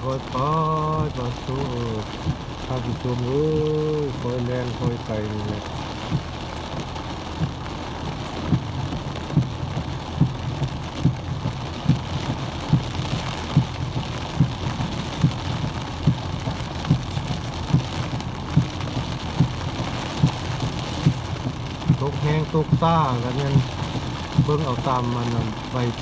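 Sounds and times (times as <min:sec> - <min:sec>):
rain hissing on car: 0:00.0 - 0:26.0
windshield wipers thumping: 0:00.1 - 0:03.4, 0:04.1 - 0:26.0.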